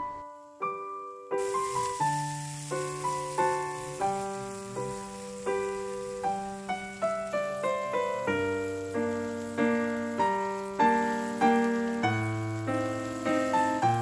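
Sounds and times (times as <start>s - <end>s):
slow piano music: 0.0s - 14.0s
oil frying: 1.4s - 14.0s.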